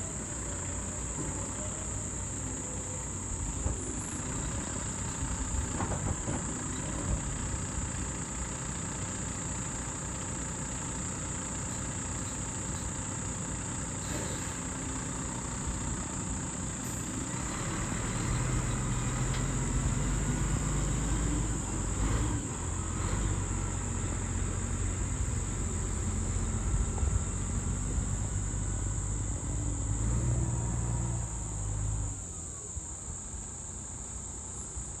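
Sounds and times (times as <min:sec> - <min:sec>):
truck diesel engine running: 0:00.0 - 0:33.5
high drone of insects: 0:00.0 - 0:35.0.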